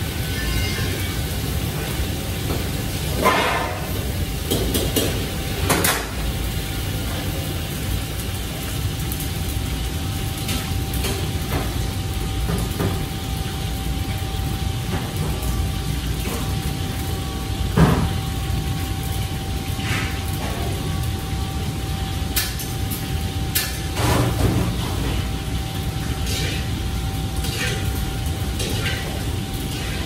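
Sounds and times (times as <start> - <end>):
gas burners and extractor roar: 0.0 - 30.0
metal clatter of woks: 0.2 - 6.4, 10.3 - 21.6, 22.2 - 30.0.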